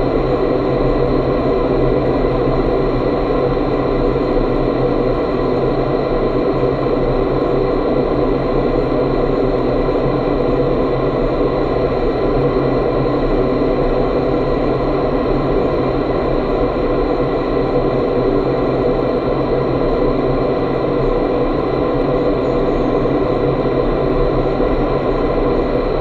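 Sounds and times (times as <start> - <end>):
rushing air in wind tunnel: 0.0 - 26.0.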